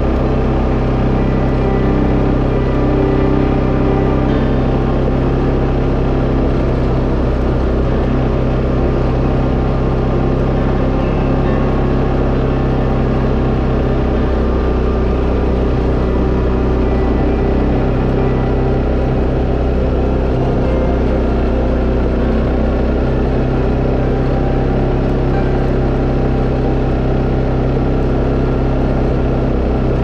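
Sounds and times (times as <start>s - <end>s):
atv engine droning: 0.0s - 30.0s.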